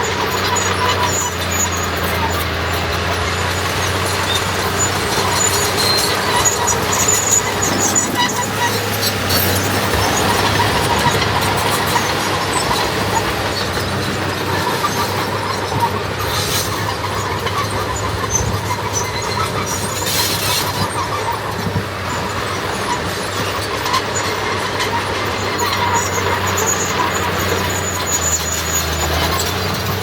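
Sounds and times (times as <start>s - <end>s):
heavy diesel machinery running: 0.0s - 30.0s
metallic squealing: 0.0s - 30.0s.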